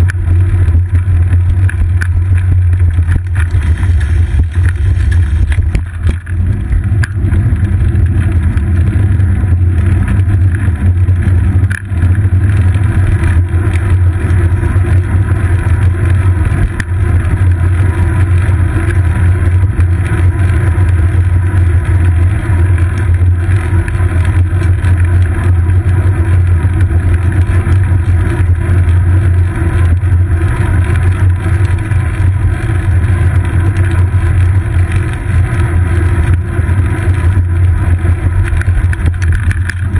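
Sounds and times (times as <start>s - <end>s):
road vibration rumble: 0.0s - 39.9s
wind noise: 0.0s - 39.9s.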